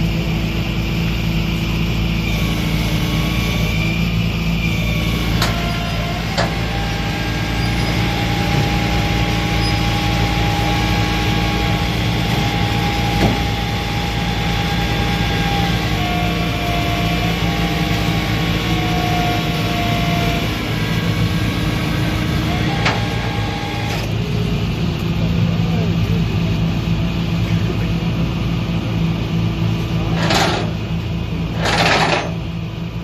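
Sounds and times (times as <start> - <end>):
steady whine: 0.0 - 33.0
truck engine running: 0.0 - 33.0.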